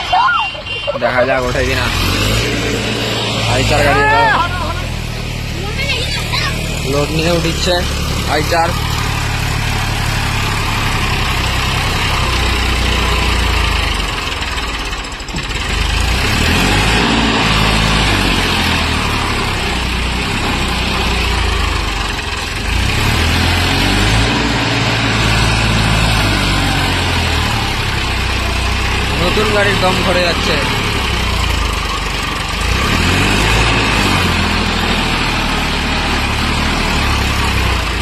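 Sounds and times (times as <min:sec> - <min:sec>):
diesel engine labouring: 0:00.0 - 0:38.0.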